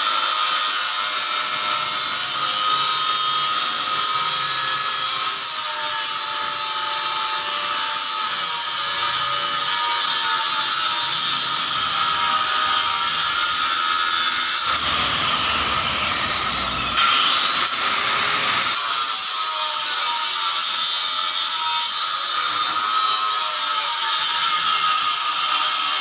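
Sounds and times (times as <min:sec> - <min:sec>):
power tool whirring: 0:00.0 - 0:26.0.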